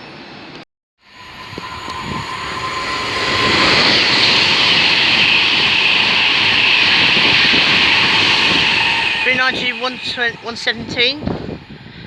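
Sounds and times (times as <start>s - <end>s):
electric train passing at speed: 1.0s - 12.0s.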